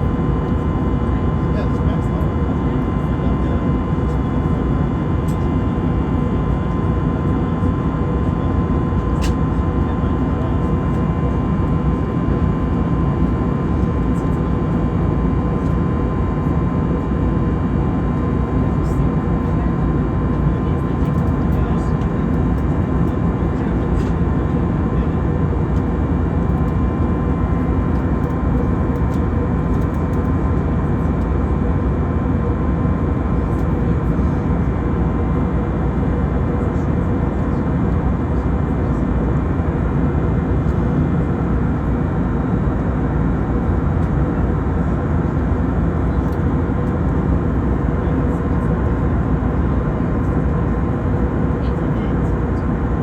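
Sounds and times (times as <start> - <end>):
airplane cabin engine rush: 0.0 - 53.0.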